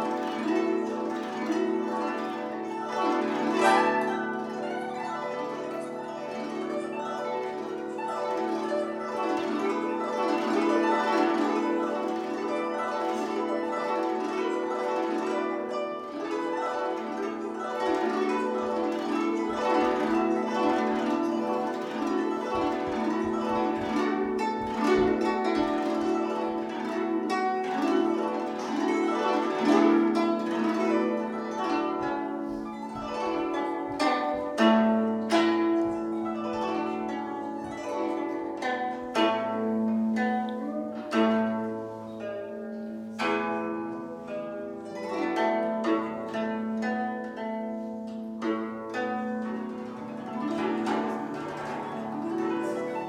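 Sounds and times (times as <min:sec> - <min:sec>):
plucked zither playing: 0:00.0 - 0:53.0.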